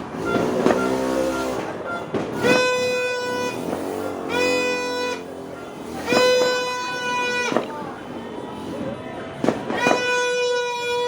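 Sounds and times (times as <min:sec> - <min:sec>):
horn blasts: 0:00.1 - 0:08.8, 0:09.7 - 0:11.0.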